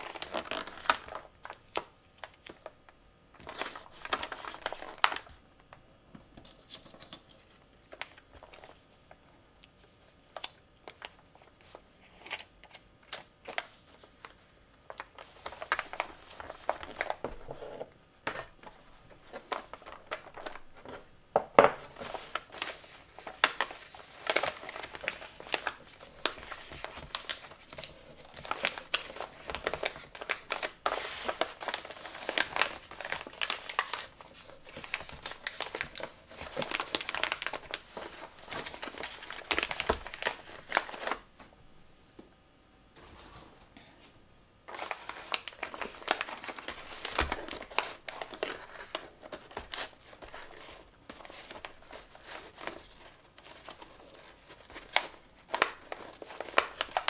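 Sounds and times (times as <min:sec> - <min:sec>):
paper crinkling and rustling: 0:00.0 - 0:02.8, 0:03.4 - 0:05.4, 0:06.4 - 0:41.3, 0:44.7 - 0:57.0.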